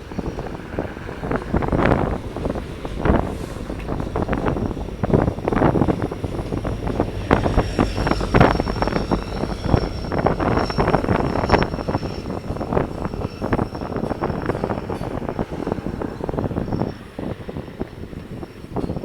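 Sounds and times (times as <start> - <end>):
high-pitched rail squeal: 0.0 - 19.0
train wheels clattering: 0.0 - 19.0
wind buffeting microphone: 0.0 - 19.0.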